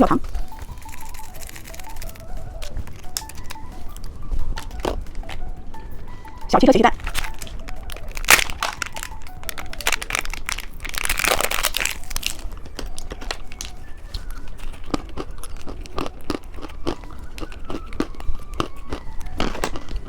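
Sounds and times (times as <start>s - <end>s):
plastic packaging crinkling: 0.2s - 5.5s, 7.0s - 20.0s.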